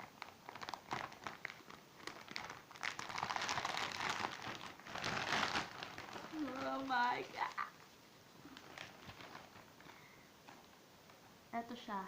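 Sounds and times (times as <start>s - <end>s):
plastic wrap crinkling: 0.0s - 11.3s.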